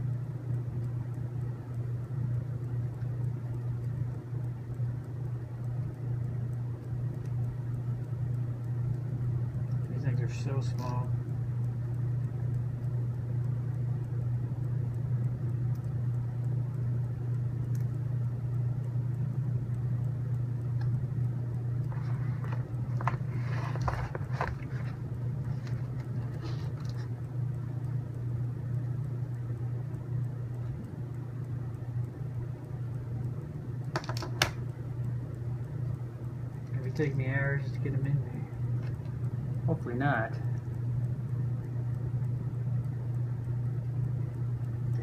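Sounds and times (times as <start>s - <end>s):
low background hum: 0.0s - 45.0s.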